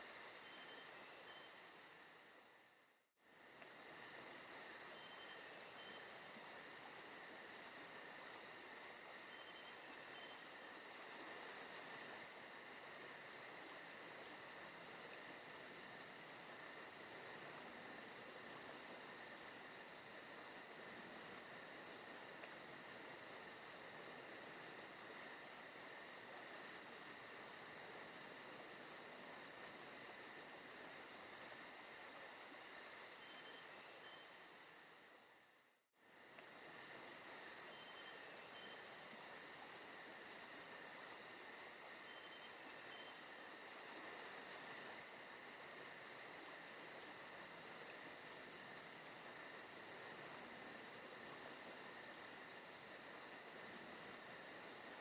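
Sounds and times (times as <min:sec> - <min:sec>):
crickets and insects chirping: 0:00.0 - 0:55.0.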